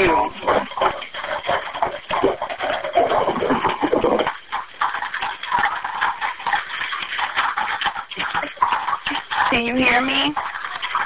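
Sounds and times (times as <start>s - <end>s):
crackling and clatter over telephone: 0.0s - 11.0s.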